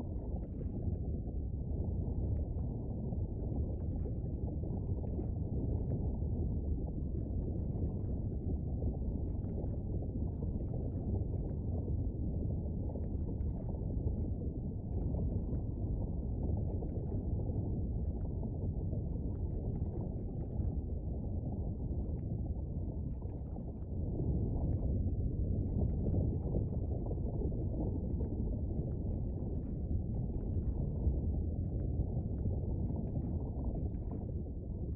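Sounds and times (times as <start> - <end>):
low volcanic rumble: 0.0 - 34.9.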